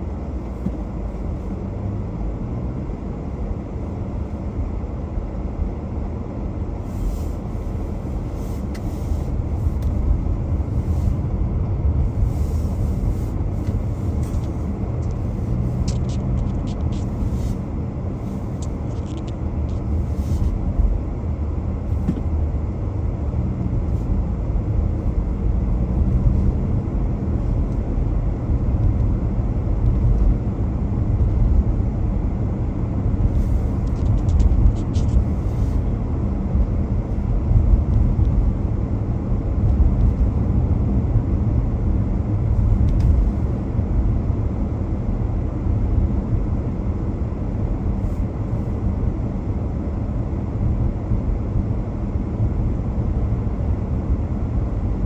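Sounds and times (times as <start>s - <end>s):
car driving on road: 0.0s - 55.0s.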